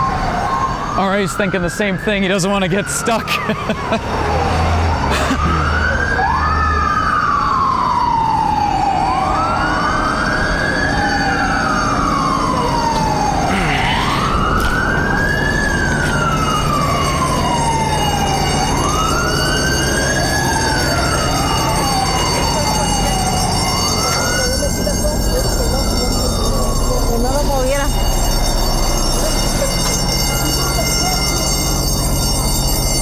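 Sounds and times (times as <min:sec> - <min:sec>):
fire engine siren wailing: 0:00.0 - 0:33.0.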